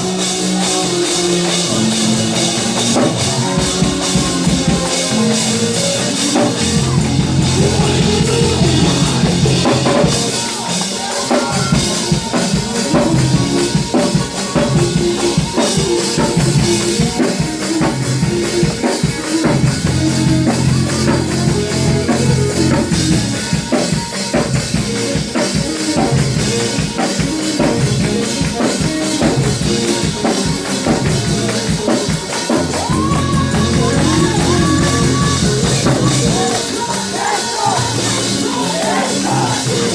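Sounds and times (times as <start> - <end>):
drum kit beat: 0.0 - 39.9
gospel band playing: 0.0 - 39.9.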